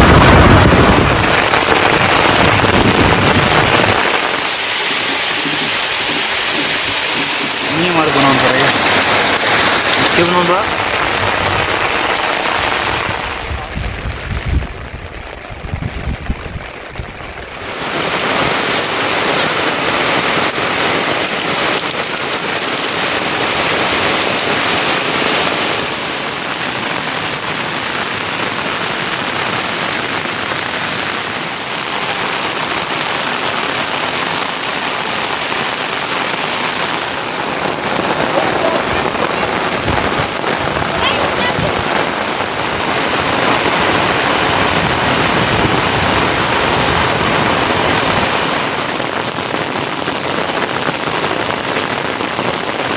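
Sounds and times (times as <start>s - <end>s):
heavy rain hiss: 0.0s - 52.9s.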